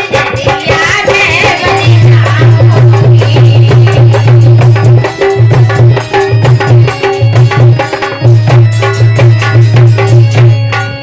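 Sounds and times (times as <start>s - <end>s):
keyboard melody: 0.0s - 11.0s.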